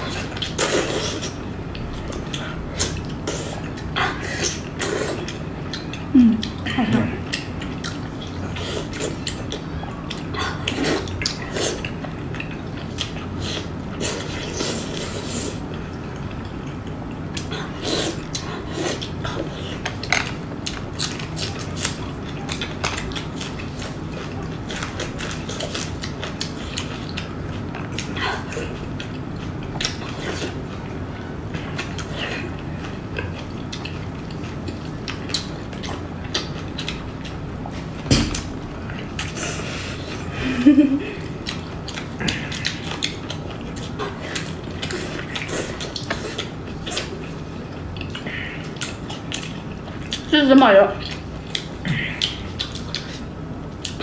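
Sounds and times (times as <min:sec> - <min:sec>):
chewing and lip smacking: 0:00.0 - 0:40.3, 0:41.2 - 0:50.3, 0:51.0 - 0:54.0.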